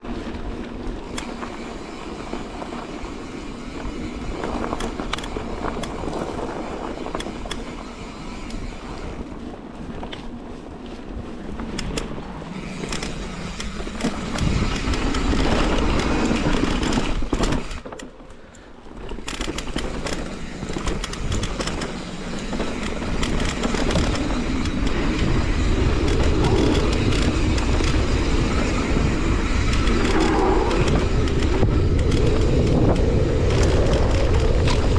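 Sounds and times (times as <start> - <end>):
tyres rumbling on gravel: 0.0 - 18.0, 18.9 - 34.9
bike rattling and clicking: 0.0 - 34.9
wind on microphone: 0.9 - 17.8, 19.2 - 34.9.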